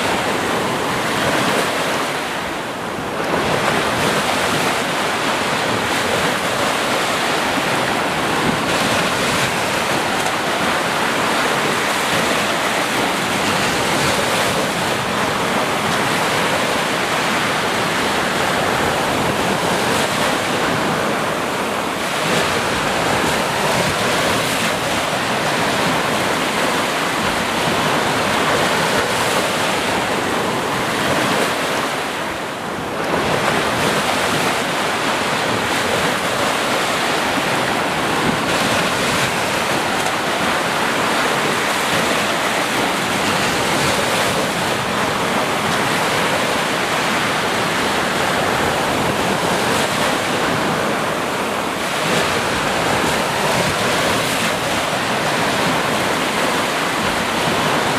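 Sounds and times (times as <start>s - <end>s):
sea waves breaking on shore: 0.0s - 57.9s.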